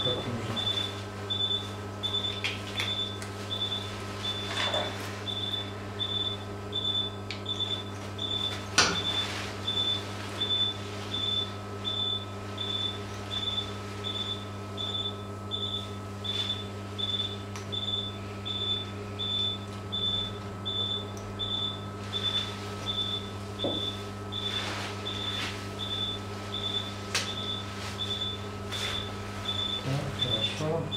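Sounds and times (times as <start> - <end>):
low electrical hum: 0.0 - 30.9
patient monitor high beeps: 0.0 - 30.9.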